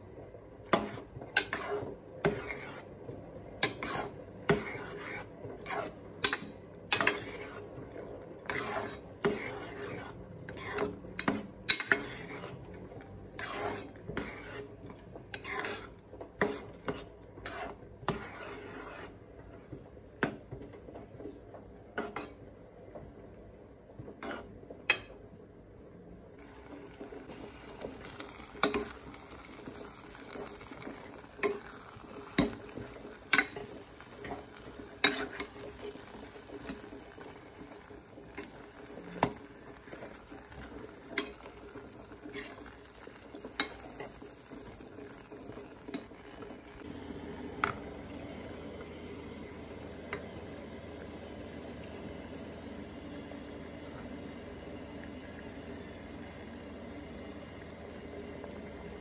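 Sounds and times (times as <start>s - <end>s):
spoon stirring thick rice in a pot: 0.5s - 23.1s, 23.9s - 25.2s, 26.4s - 51.6s.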